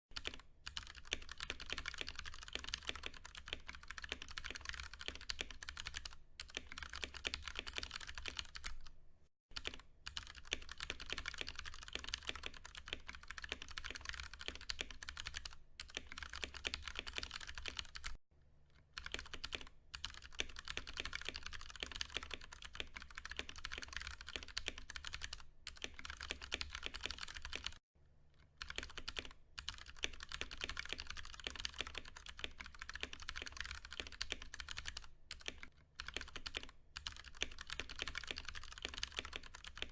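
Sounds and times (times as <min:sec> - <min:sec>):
mechanical keyboard typing: 0:00.2 - 0:08.9, 0:09.6 - 0:18.2, 0:19.0 - 0:27.8, 0:28.6 - 0:39.9.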